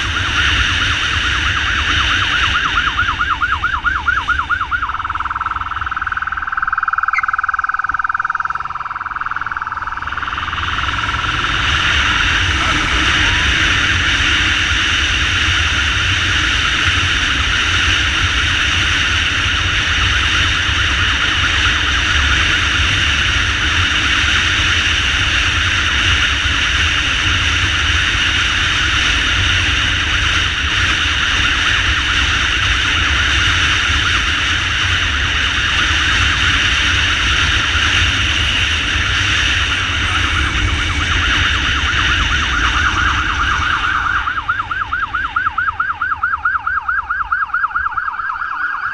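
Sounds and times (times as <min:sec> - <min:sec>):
wind rushing: 0:00.0 - 0:23.6, 0:32.7 - 0:48.9
siren wailing: 0:00.0 - 0:25.5, 0:26.4 - 0:48.9
motorcycle engine rumble: 0:00.0 - 0:48.9.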